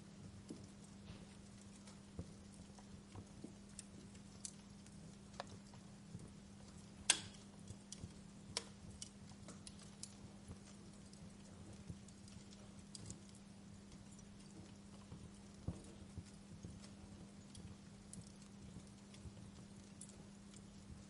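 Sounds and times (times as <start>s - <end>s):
faint steady hum: 0.0s - 21.0s
wood fire crackling: 0.0s - 21.0s.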